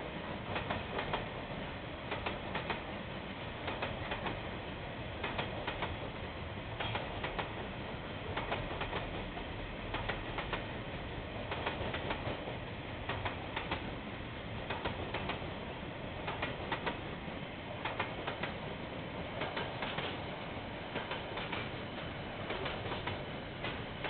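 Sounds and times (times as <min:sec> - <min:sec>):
train rumble: 0:00.0 - 0:24.0
train wheels clicking over rail joints: 0:00.3 - 0:01.4, 0:02.0 - 0:03.0, 0:03.6 - 0:04.5, 0:05.2 - 0:06.2, 0:06.8 - 0:17.2, 0:17.8 - 0:24.0.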